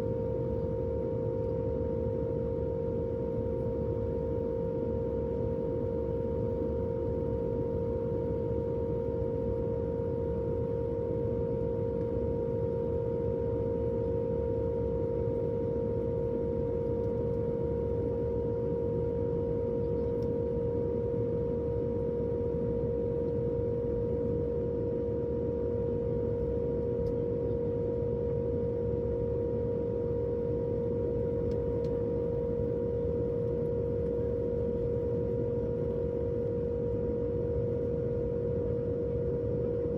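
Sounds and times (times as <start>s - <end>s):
airplane cabin rumble: 0.0s - 39.9s
constant humming tone: 0.0s - 39.9s.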